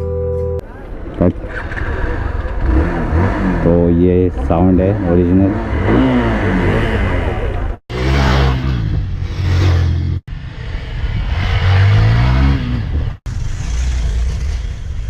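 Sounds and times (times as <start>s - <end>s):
motorcycle engine revving: 1.2s - 15.0s.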